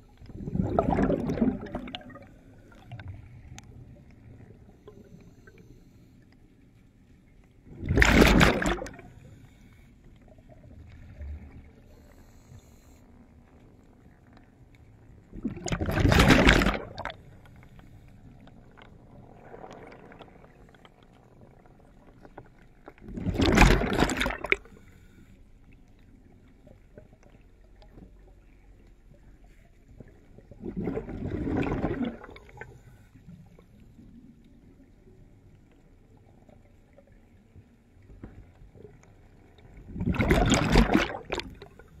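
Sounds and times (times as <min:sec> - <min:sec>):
underwater bubbling: 0:00.0 - 0:42.0.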